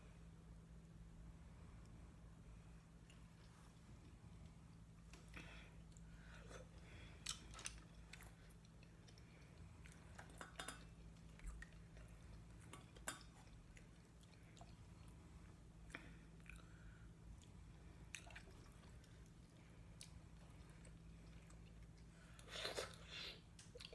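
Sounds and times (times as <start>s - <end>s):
steady low hum: 0.0s - 23.9s
chewing and lip-smacking: 3.0s - 23.9s.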